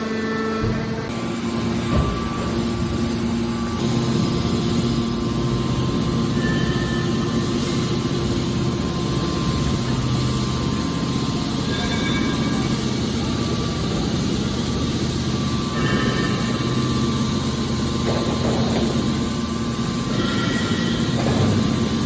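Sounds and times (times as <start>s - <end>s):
hydraulic baler drone: 0.0s - 22.0s.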